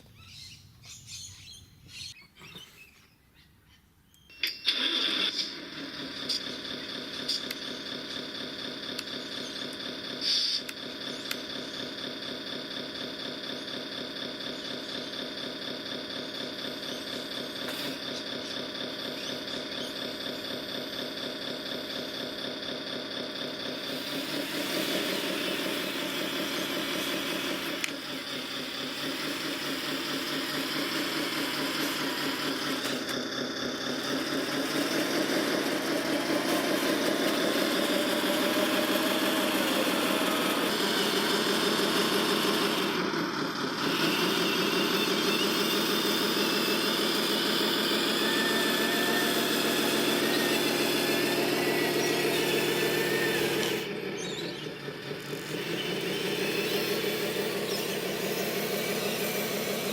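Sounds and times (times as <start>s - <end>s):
toy vehicle engine with high whine: 4.1s - 59.9s.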